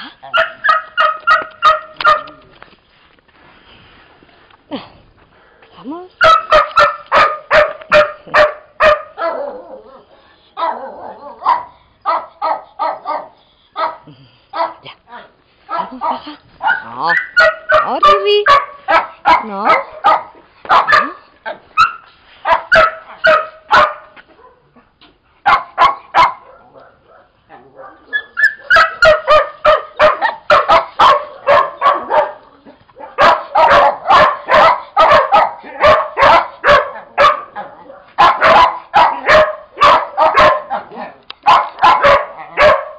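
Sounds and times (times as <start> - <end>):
dogs barking excitedly: 0.2 - 2.5, 6.2 - 9.9, 10.6 - 14.9, 15.7 - 24.8, 25.4 - 42.9.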